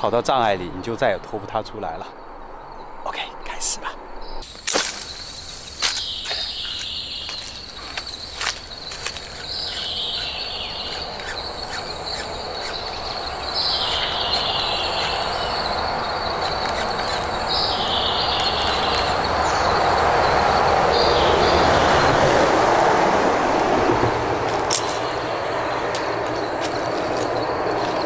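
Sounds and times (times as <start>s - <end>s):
insects buzzing calls: 2.2s - 28.0s
rushing noise: 4.4s - 28.0s.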